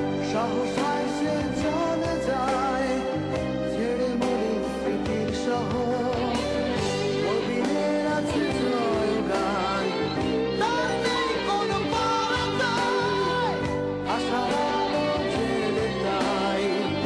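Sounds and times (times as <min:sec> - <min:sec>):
bending melodic lead guitar: 0:00.0 - 0:17.0
rock band playing: 0:00.0 - 0:17.0.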